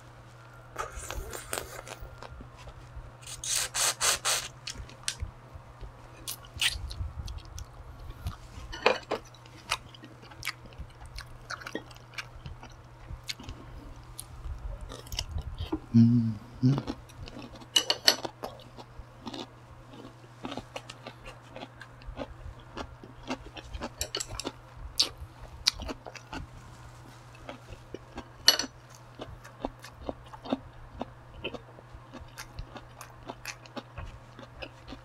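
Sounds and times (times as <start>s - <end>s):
person chewing food: 0.8s - 5.2s, 6.2s - 15.8s, 16.6s - 35.0s.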